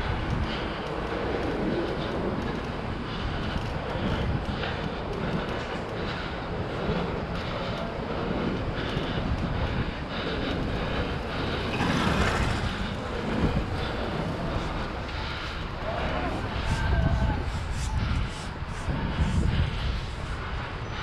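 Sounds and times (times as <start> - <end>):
bicycle tyre roar on asphalt: 0.0 - 21.0
wind rush on microphone: 0.0 - 21.0.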